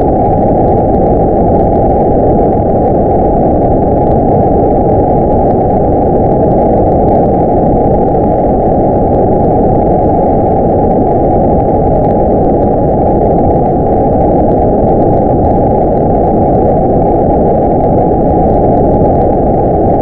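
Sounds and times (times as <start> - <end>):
low muffled rumble: 0.0 - 20.0.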